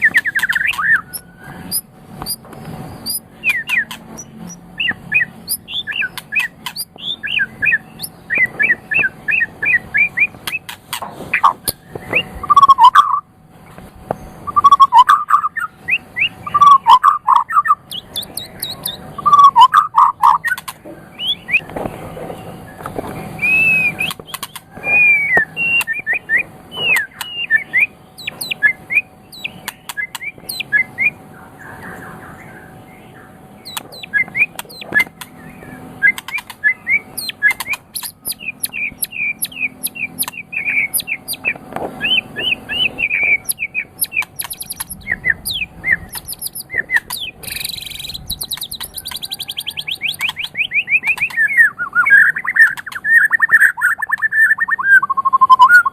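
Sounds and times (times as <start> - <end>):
bird rattling trill: 0.0 - 13.2, 14.5 - 21.6, 23.3 - 31.0, 33.6 - 55.9
songbird whistling song: 0.0 - 13.3, 14.1 - 55.9.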